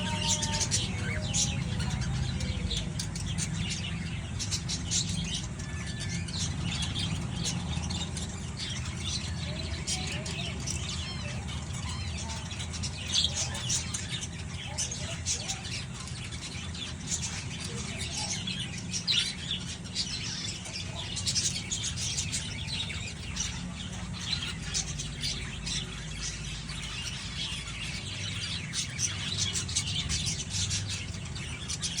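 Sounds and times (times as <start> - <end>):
budgerigars chirping: 0.0 - 32.0.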